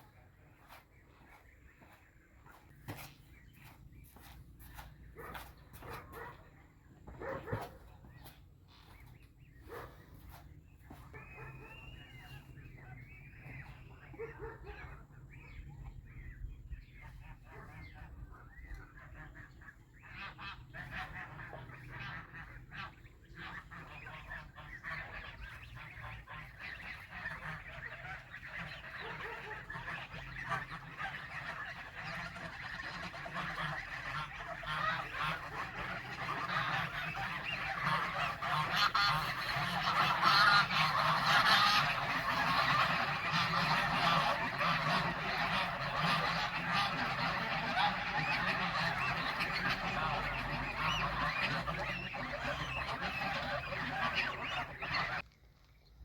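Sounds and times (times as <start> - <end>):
geese honking: 0.0 - 55.3.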